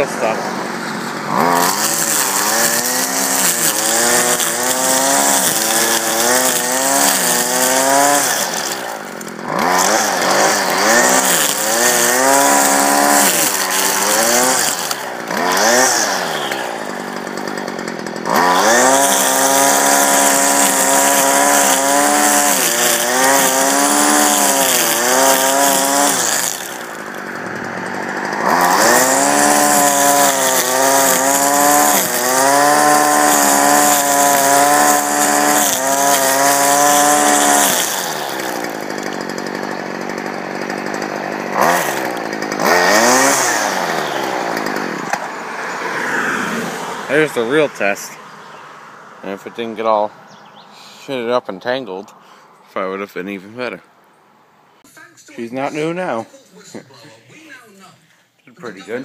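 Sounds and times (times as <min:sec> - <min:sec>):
string trimmer cutting weeds: 0:00.0 - 0:49.4.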